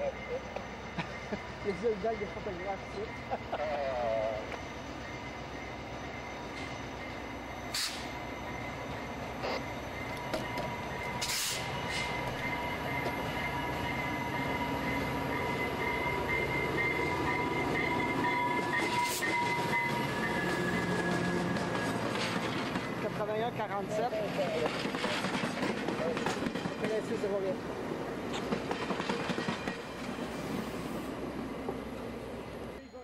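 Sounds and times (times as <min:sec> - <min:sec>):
diesel locomotive engine rumble: 0:00.0 - 0:33.0.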